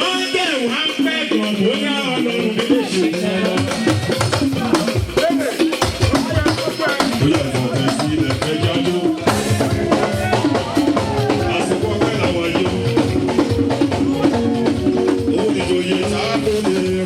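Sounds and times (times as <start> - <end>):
church praise band music: 0.0 - 17.0
drum kit beat: 0.0 - 17.0.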